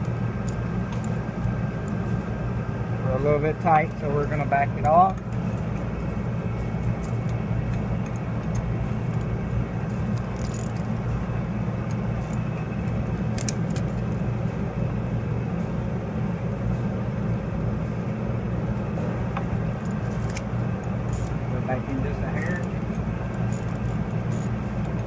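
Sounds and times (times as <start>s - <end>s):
low rumble of machinery: 0.0s - 25.0s.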